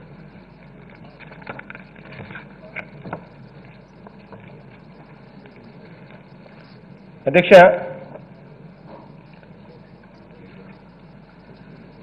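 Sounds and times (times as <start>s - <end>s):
faint background murmur: 0.0s - 12.0s
sound system low hum: 0.0s - 12.0s.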